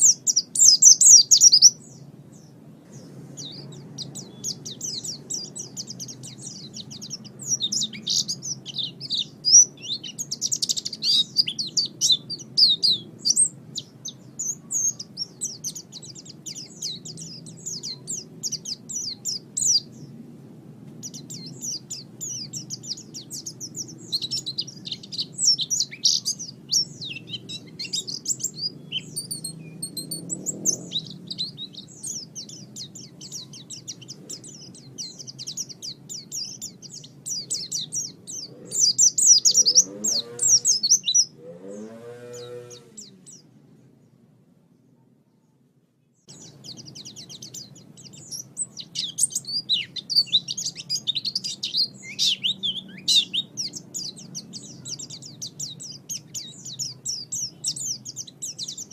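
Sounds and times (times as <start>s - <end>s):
songbird twittering: 0.0s - 20.2s, 20.9s - 44.2s, 46.2s - 58.9s
lower rising and falling bird calls: 0.0s - 44.2s, 46.1s - 58.9s.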